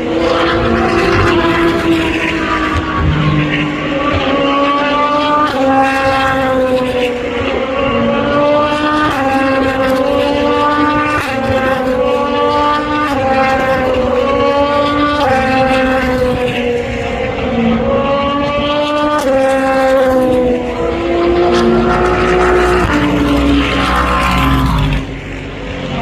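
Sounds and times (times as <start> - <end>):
race car engines racing: 0.0 - 26.0.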